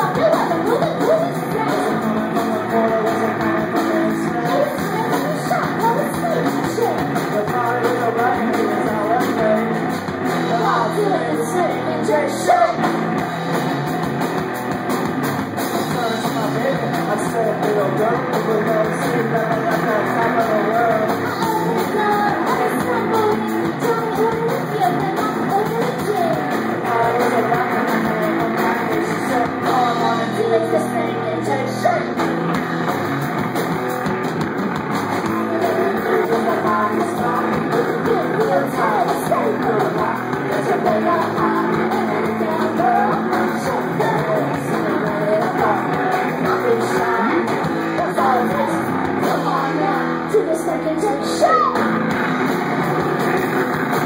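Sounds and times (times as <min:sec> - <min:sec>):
person singing: 0:00.0 - 0:12.9, 0:15.9 - 0:32.2, 0:35.2 - 0:51.9
electric guitar: 0:00.0 - 0:54.0.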